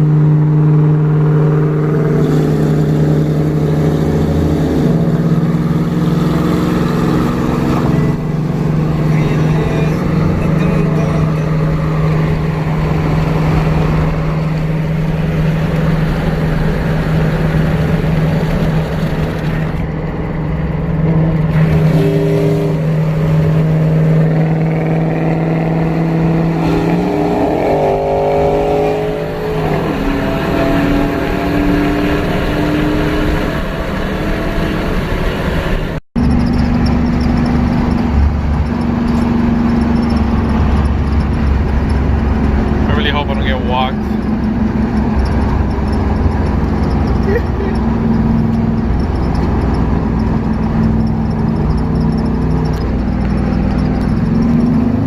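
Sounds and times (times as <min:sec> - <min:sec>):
pickup engine droning: 0:00.0 - 0:55.0.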